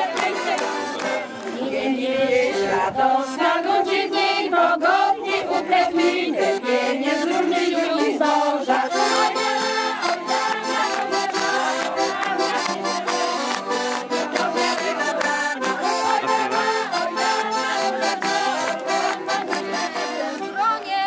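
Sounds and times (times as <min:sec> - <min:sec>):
accordion playing folk tune: 0:00.0 - 0:21.0
women singing: 0:00.0 - 0:21.0.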